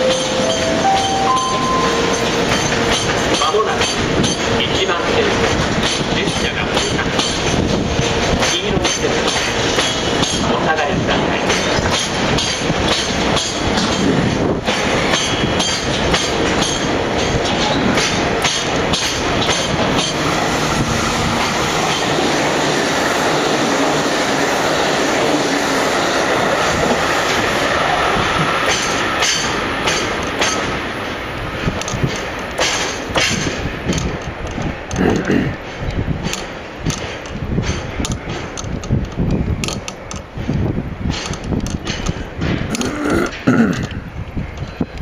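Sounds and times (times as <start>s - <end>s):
wheels clacking over rail joints: 0.0s - 25.6s, 26.2s - 45.0s
freight train rumbling: 0.0s - 45.0s.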